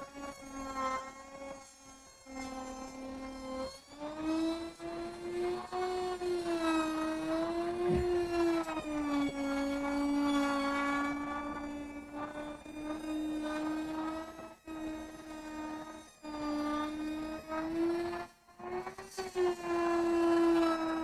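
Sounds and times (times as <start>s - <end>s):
power tool motor whining: 0.1s - 18.1s.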